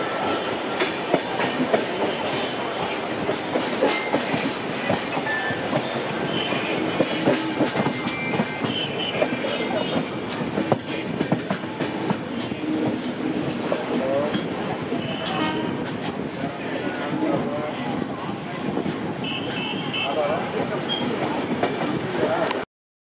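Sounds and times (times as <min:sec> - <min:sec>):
train wheels clattering over rails: 0:00.2 - 0:22.6.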